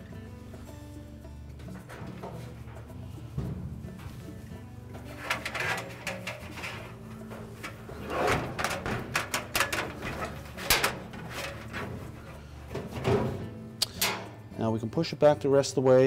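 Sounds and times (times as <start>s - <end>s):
metal dryer drum scraping and rattling: 0.4s - 14.8s.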